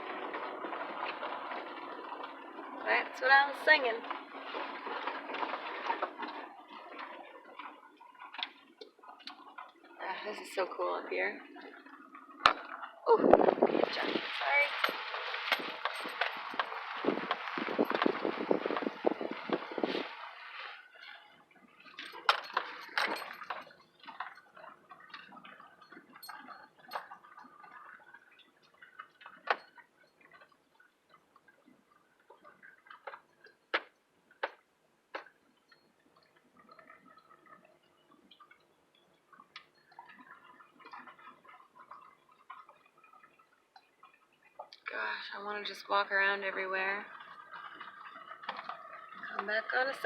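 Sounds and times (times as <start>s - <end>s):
faint steady background noise: 0.0s - 50.0s.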